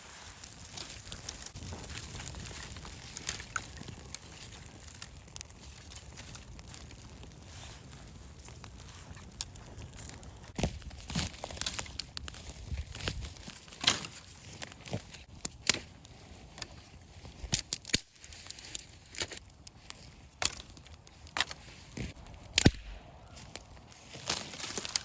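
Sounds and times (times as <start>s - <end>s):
twigs snapping and crackling: 0.1s - 25.0s.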